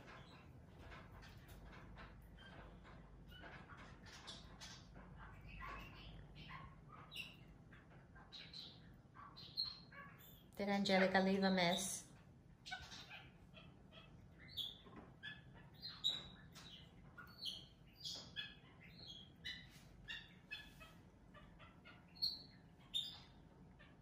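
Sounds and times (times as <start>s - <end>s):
monkey chirping and squeaking: 0.1s - 10.6s, 12.6s - 24.0s.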